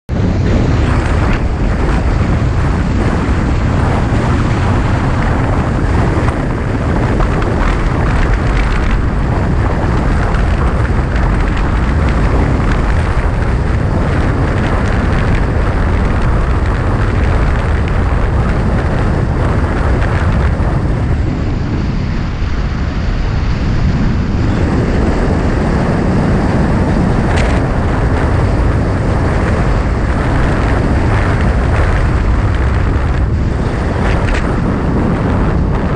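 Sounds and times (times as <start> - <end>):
tyre and road noise: 0.1 - 35.9
wind buffeting microphone: 0.1 - 35.9.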